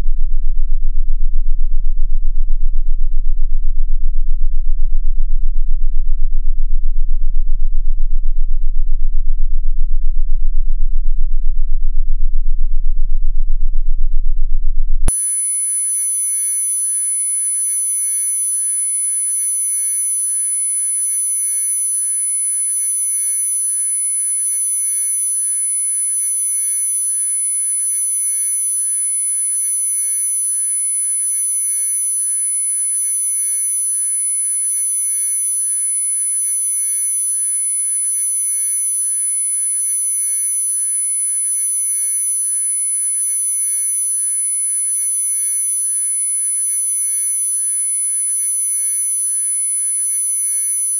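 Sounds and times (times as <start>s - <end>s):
sine wave tones: 0.0s - 50.9s.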